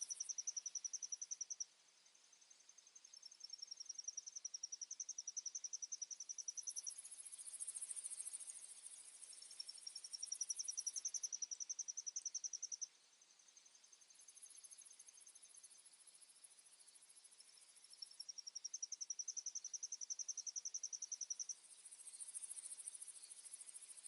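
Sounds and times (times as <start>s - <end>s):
insects pulsing trill: 0.0s - 1.7s, 2.4s - 24.0s.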